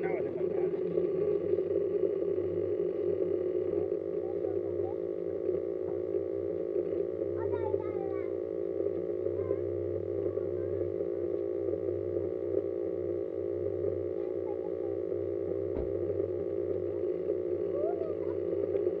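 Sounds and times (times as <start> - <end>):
steady electric hum: 0.0 - 19.0.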